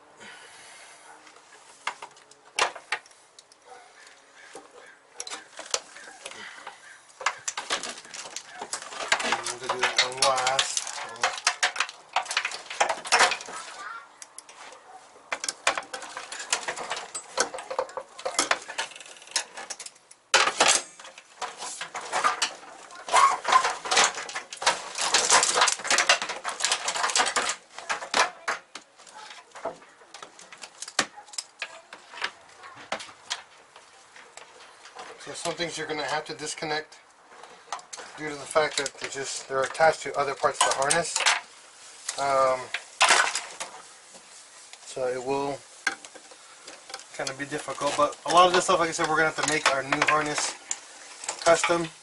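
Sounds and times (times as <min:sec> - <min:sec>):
plastic connectors clattering on metal: 0:01.8 - 0:52.0.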